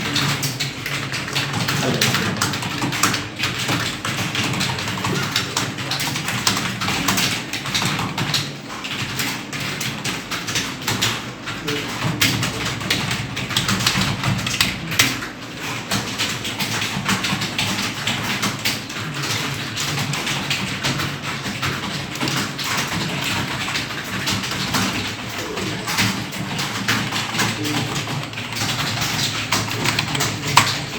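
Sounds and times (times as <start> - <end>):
fast keyboard typing: 0.0 - 30.9.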